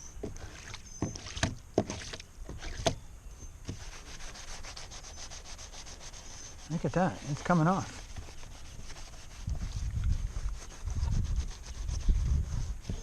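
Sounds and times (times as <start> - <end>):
hand scrubbing kayak hull: 0.2 - 3.0, 3.6 - 13.0.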